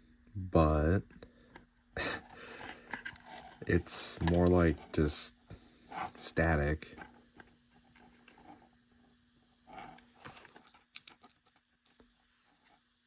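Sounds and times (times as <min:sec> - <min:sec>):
speaker static hiss: 0:00.0 - 0:13.0
steady low hum: 0:00.0 - 0:13.0.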